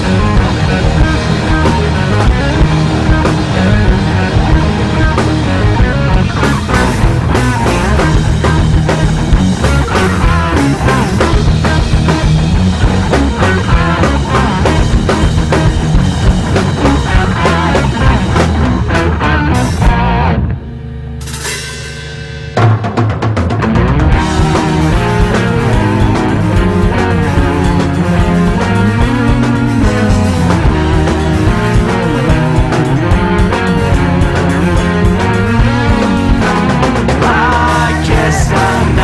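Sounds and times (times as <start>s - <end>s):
rock band playing: 0.0s - 39.0s.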